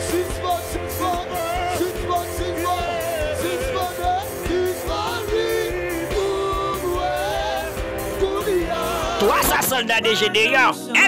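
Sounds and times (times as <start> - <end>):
background music with low beat: 0.0 - 11.0.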